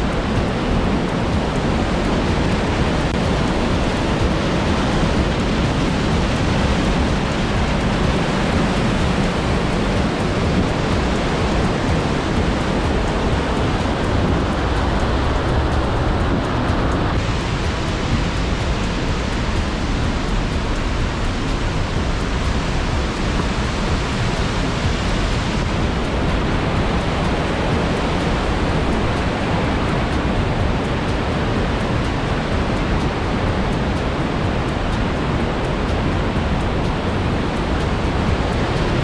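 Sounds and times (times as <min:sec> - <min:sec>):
mountain torrent rushing: 0:00.0 - 0:39.0.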